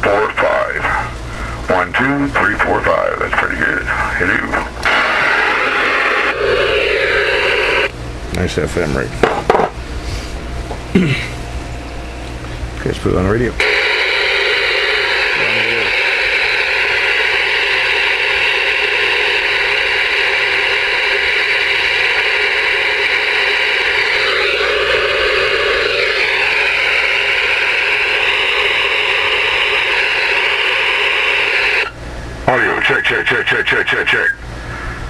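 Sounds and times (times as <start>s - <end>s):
radio static hiss: 0.0s - 9.2s, 12.9s - 35.0s.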